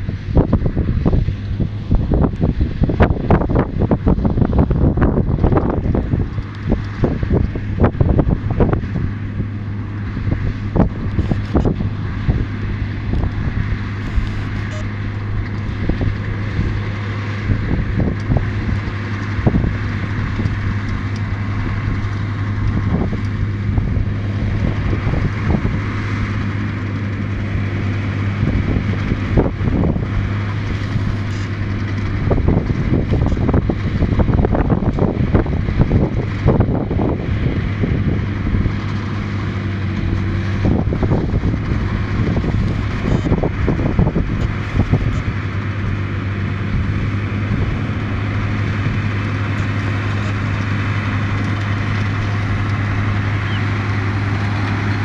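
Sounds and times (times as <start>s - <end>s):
tractor engine running: 0.0s - 55.0s
wind buffeting microphone: 0.0s - 55.0s.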